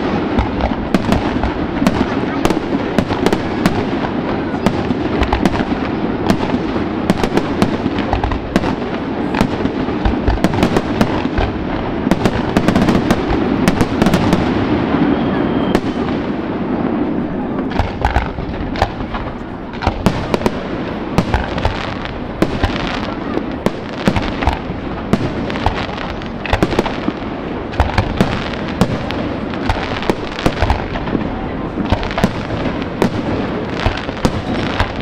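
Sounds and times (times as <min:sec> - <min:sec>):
continuous wash of noise: 0:00.0 - 0:35.0
fireworks bursting: 0:00.0 - 0:35.0.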